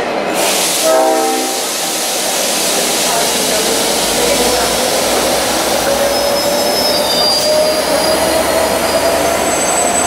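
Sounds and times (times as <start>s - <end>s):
diesel train running: 0.0s - 10.0s.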